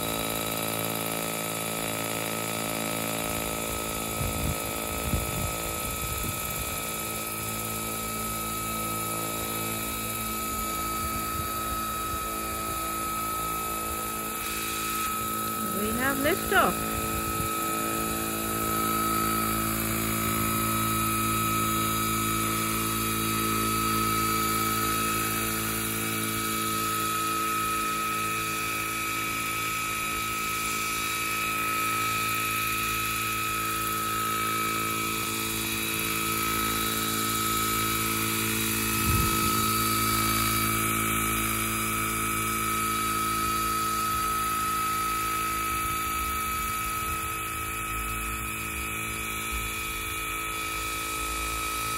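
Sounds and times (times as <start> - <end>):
model helicopter hovering: 0.0 - 51.9.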